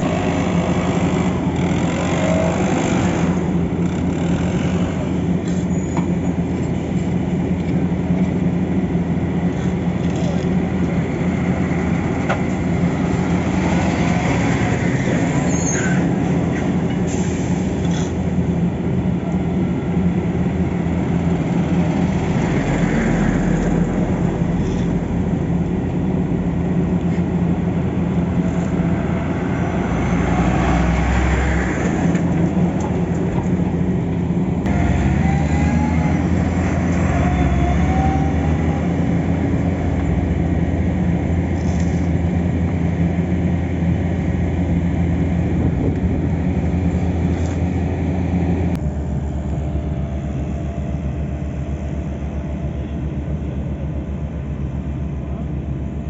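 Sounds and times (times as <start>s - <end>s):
heavy machinery diesel engines: 0.0s - 56.0s.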